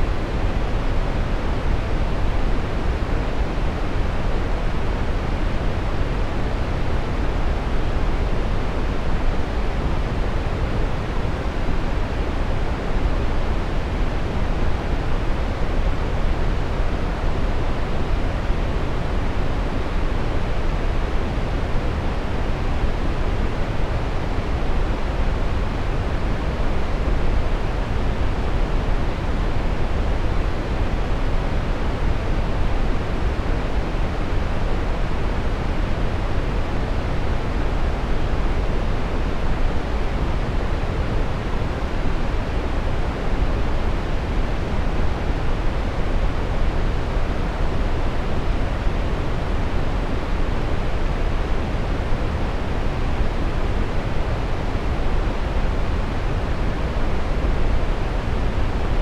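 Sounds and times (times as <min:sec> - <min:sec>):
brown noise rushing hiss: 0:00.0 - 0:59.0.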